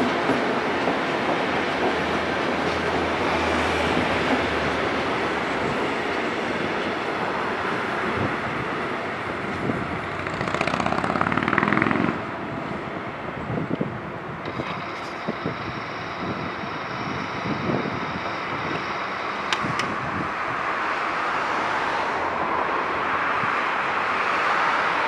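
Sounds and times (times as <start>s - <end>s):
rapid train clatter: 0.0s - 12.8s, 13.6s - 22.4s
train wheels rumbling on rails: 0.0s - 25.0s.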